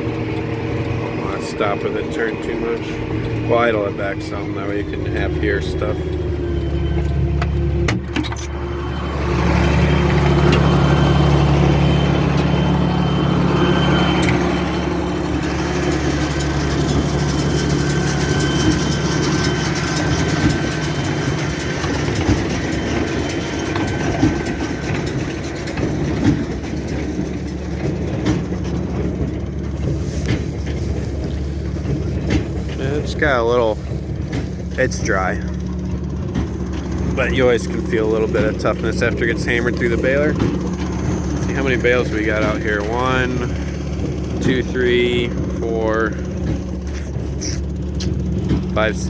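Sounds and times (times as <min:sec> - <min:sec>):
tractor diesel engine idling: 0:00.0 - 0:49.0.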